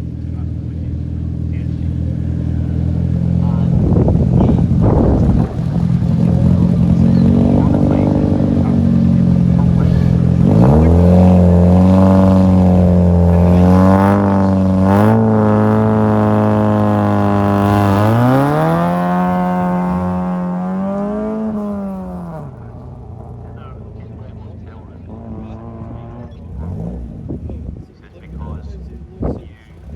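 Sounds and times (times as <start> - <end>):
rally car engine accelerating: 0.0 - 29.9.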